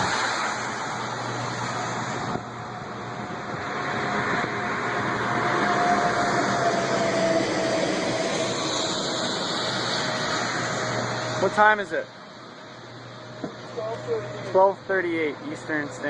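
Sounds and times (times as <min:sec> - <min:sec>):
car road and engine noise: 0:00.0 - 0:16.0
faint steady whine: 0:00.0 - 0:16.0.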